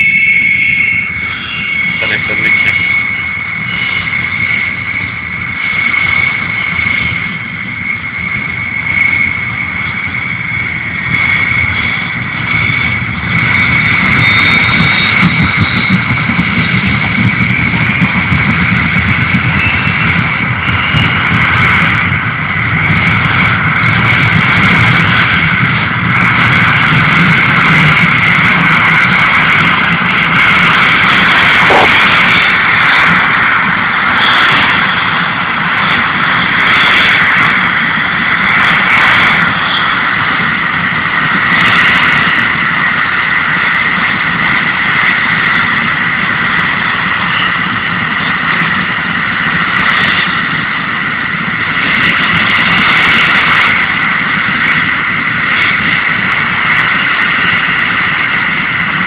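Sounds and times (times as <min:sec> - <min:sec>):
truck engine running: 0:00.0 - 0:52.7
high whine: 0:00.0 - 0:59.0.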